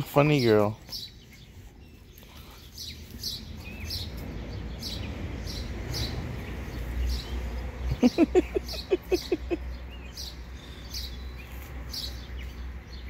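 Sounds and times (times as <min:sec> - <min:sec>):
small songbirds chirping: 0:00.0 - 0:13.0.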